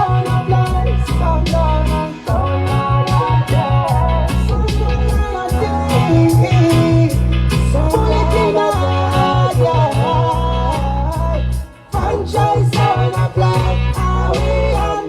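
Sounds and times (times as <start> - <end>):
dancehall reggae music: 0.0 - 15.0
heavy bassline: 0.0 - 15.0
sung vocal: 0.0 - 15.0.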